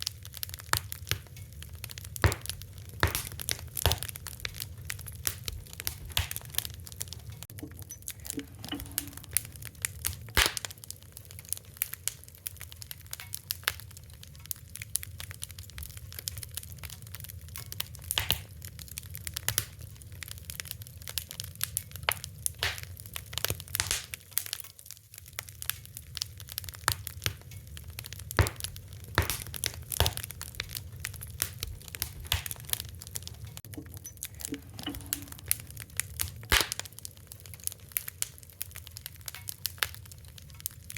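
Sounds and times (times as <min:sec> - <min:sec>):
fire crackling: 0:00.0 - 0:40.9.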